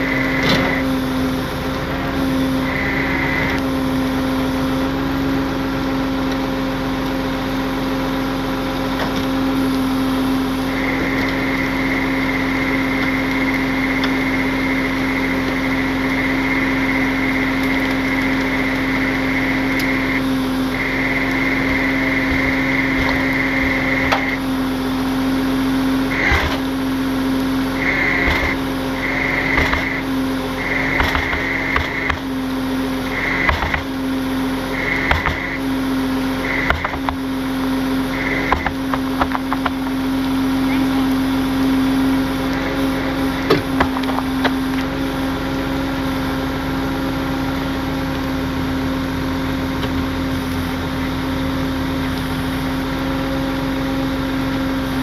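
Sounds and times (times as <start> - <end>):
truck engine running: 0.0 - 55.0
winch whine: 0.0 - 55.0.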